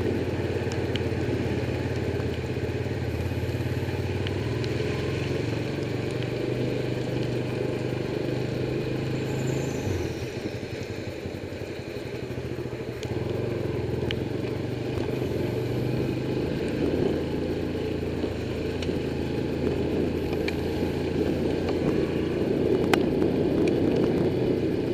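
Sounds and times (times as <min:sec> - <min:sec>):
motorcycle engine running: 0:00.0 - 0:24.9
steady rushing noise: 0:00.0 - 0:24.9.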